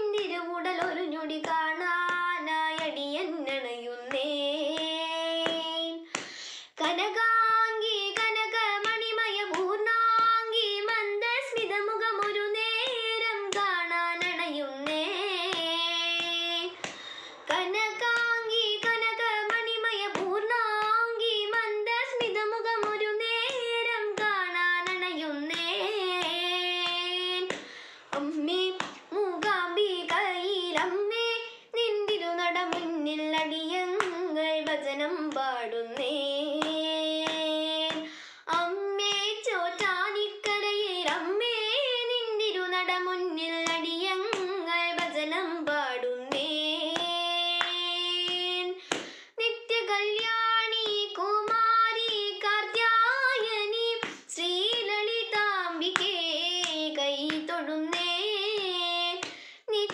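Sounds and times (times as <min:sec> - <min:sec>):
girl singing solo: 0:06.8 - 0:59.9.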